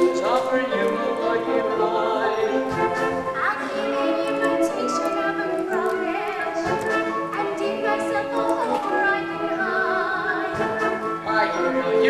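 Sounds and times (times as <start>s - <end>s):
instrumental accompaniment: 0.0s - 12.0s.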